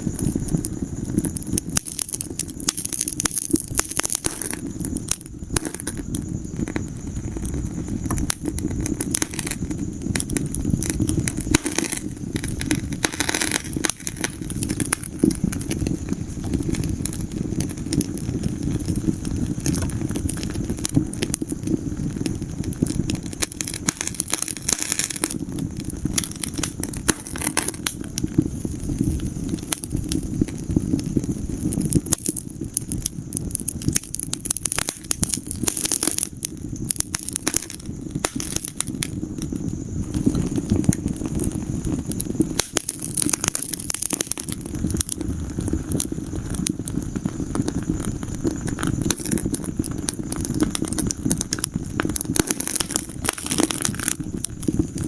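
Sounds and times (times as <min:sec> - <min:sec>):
low rumble of fire: 0:00.0 - 0:55.0
wood fire crackling: 0:00.0 - 0:55.0.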